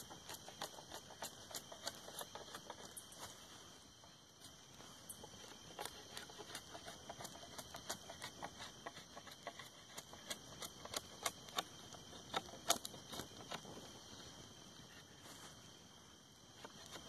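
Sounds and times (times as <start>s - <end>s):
knife shaving bark off stick: 0.0s - 3.8s, 4.4s - 13.9s, 16.6s - 17.0s.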